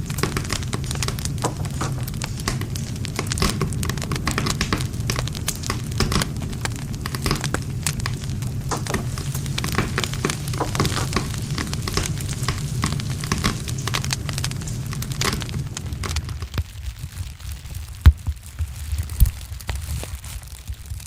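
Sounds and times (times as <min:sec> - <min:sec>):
campfire crackling and popping: 0:00.0 - 0:21.0
campfire rumbling: 0:00.0 - 0:21.0.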